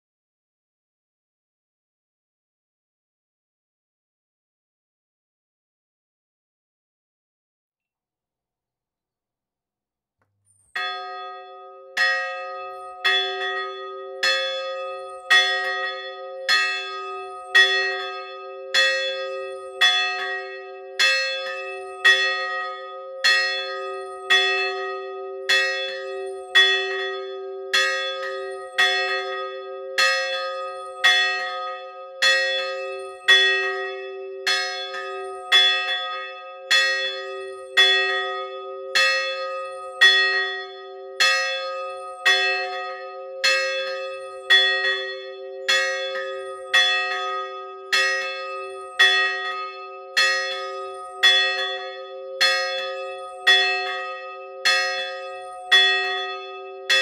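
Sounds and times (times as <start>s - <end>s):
church bell ringing: 10.7s - 57.0s.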